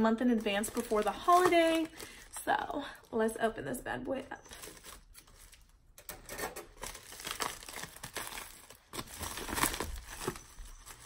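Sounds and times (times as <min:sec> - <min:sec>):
packaging crinkling and tearing: 0:00.1 - 0:02.5, 0:04.5 - 0:11.0.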